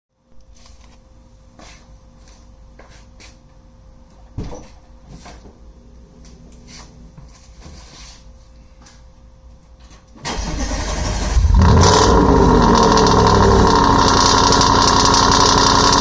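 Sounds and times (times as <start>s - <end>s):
faint steady hum: 0.1s - 16.0s.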